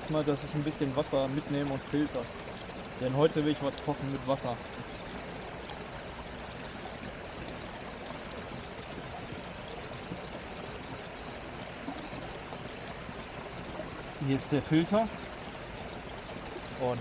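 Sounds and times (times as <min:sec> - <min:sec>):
brook flowing: 0:00.0 - 0:17.0.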